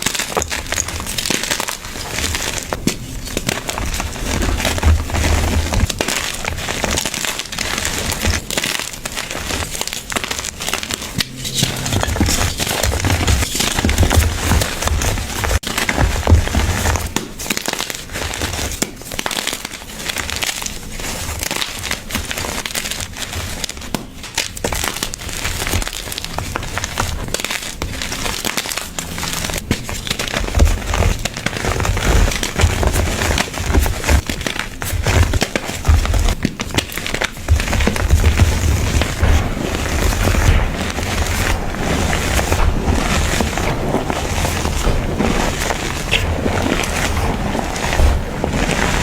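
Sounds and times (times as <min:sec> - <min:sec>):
chalk crunching by hand: 0:00.0 - 0:22.5, 0:24.8 - 0:49.0.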